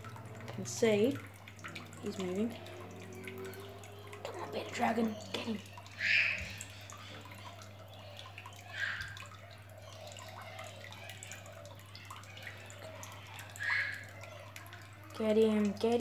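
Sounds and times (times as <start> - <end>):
water dripping into pond: 0.0 - 16.0.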